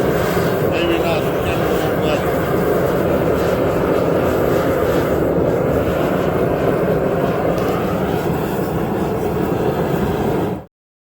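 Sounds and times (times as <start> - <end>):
forge roaring: 0.0 - 10.7.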